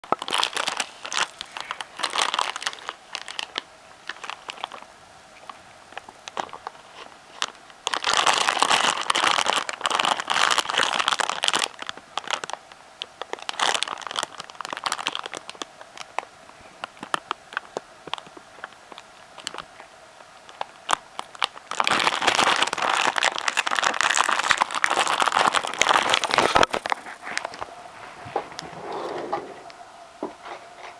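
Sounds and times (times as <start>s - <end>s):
plastic bag crinkling: 0.0s - 28.8s.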